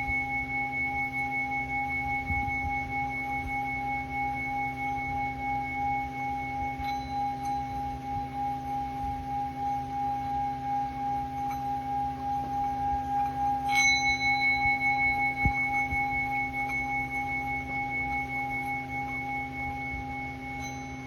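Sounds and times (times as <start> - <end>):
singing bowl rim rubbed: 0.0 - 21.0
singing bowl struck ringing: 0.0 - 21.0.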